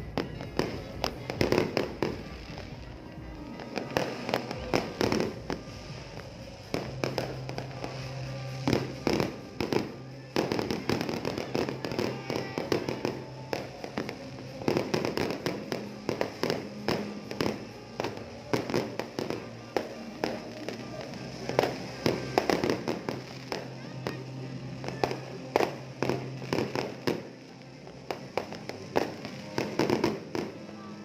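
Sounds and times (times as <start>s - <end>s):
fireworks bangs and pops: 0.0s - 31.0s.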